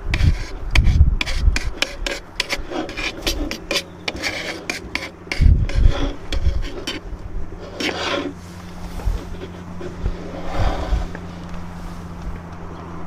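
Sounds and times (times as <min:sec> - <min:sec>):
low bumps: 0:00.0 - 0:13.0
metal tongs scraping on wooden plate: 0:00.1 - 0:11.0.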